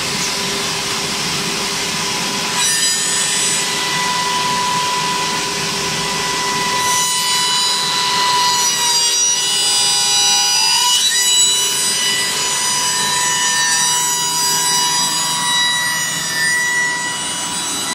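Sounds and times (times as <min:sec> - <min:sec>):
spindle cutter high whine: 0:00.0 - 0:17.9.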